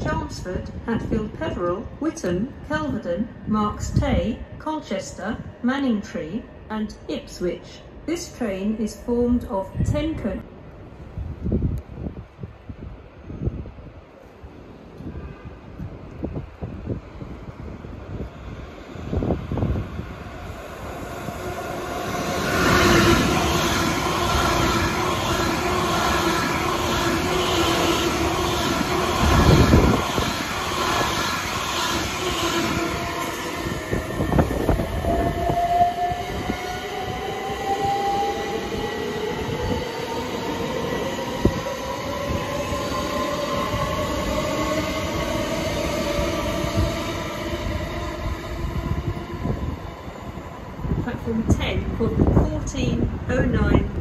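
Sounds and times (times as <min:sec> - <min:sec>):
train hum: 0:00.0 - 0:54.0.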